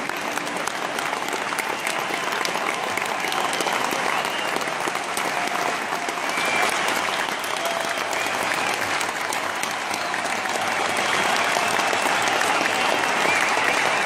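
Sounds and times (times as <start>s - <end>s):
audience applauding: 0.0s - 14.0s
crowd calls and whistles: 0.0s - 14.0s.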